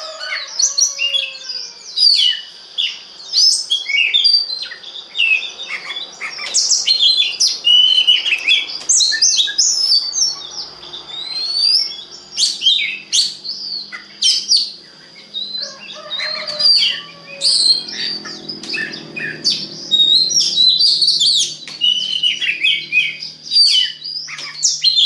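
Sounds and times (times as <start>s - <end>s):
bird singing whistles and chirps: 0.0s - 25.0s.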